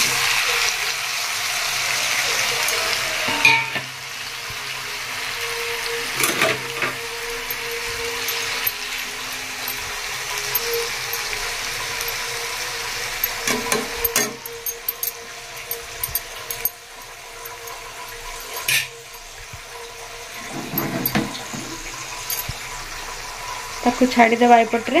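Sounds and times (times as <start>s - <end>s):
prawns sizzling in oil: 0.0s - 25.0s.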